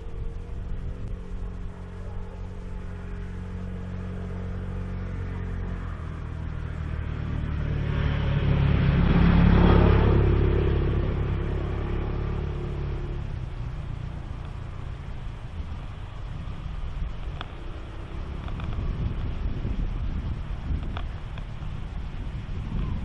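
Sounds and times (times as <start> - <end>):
motor vehicle passing by: 0.0 - 23.0.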